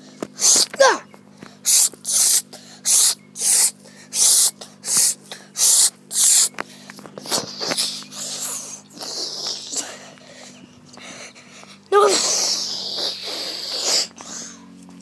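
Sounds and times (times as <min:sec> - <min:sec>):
hissing breath puffs: 0:00.0 - 0:14.8.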